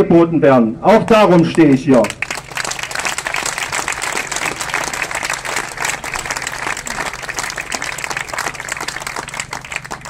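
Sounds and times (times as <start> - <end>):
low steady hum: 0.0 - 10.0
crowd applauding: 1.6 - 10.0.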